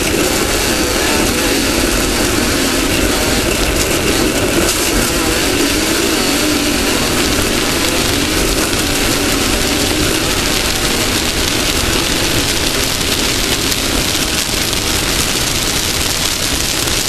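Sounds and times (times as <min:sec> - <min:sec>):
race car engine drone: 0:00.0 - 0:17.0
wind and terrain noise: 0:00.0 - 0:17.0.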